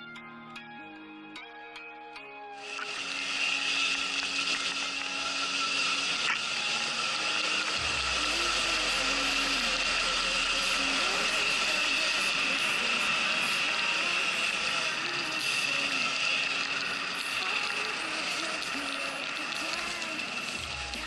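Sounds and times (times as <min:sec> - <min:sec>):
electric motor whine: 0:02.6 - 0:21.0.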